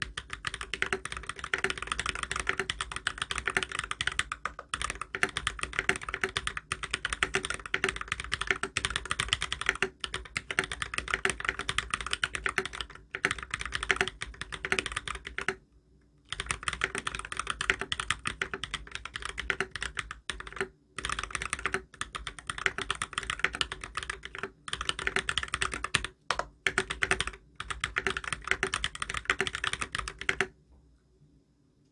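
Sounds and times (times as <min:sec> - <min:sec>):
mechanical keyboard typing: 0:00.0 - 0:15.6, 0:16.3 - 0:30.5.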